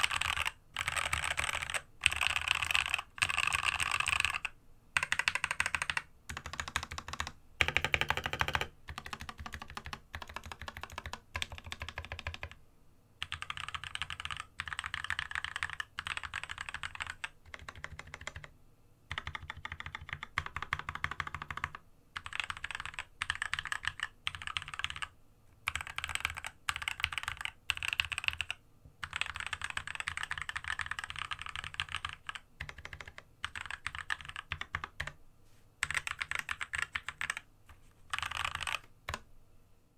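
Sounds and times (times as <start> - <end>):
fast typing on mechanical keyboard: 0.0 - 12.6, 13.2 - 18.5, 19.1 - 35.2, 35.8 - 37.5, 38.1 - 39.2.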